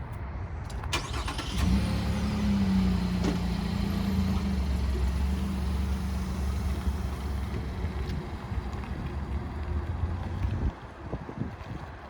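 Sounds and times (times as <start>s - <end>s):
pickup engine idling: 1.0s - 10.8s.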